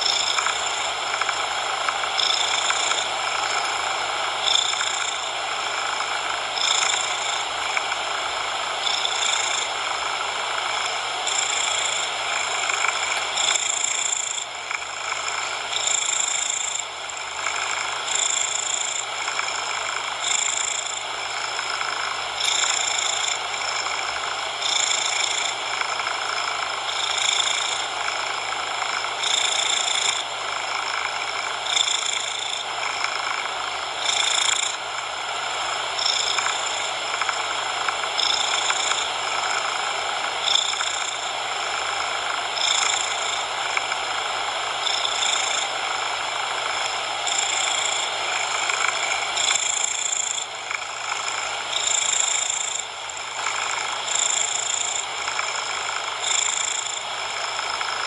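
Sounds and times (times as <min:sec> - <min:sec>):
cat purring: 0:00.0 - 0:58.0
steady coloured noise: 0:00.0 - 0:58.0.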